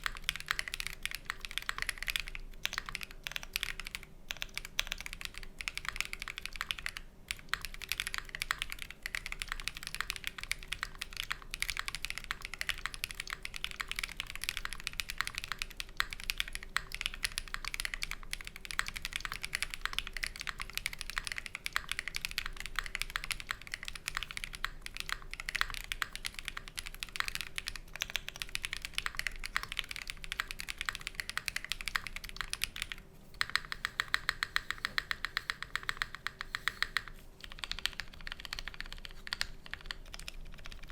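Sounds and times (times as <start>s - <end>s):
faint fan hum: 0.0s - 40.9s
mechanical keyboard typing: 0.0s - 40.9s.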